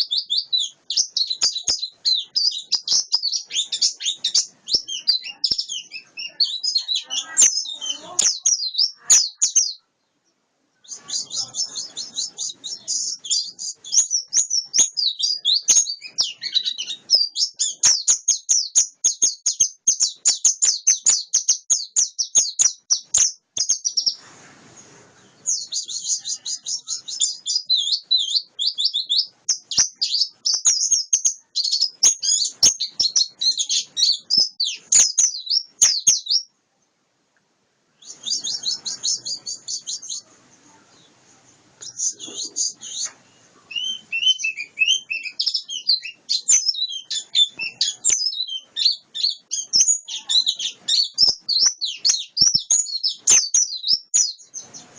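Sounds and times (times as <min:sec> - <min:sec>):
white-eye chirping and twittering: 0:00.0 - 0:09.8, 0:10.8 - 0:36.5, 0:38.0 - 0:54.9.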